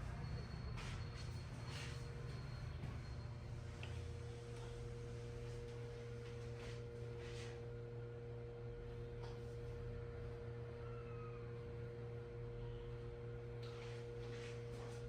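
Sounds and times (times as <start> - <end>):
steady hum of held tones: 0.0 - 15.0.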